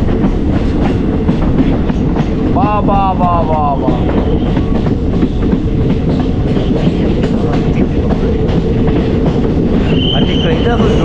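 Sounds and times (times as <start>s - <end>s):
clacks over rail joints: 0.0s - 11.0s
train wheels rumbling on rail: 0.0s - 11.0s.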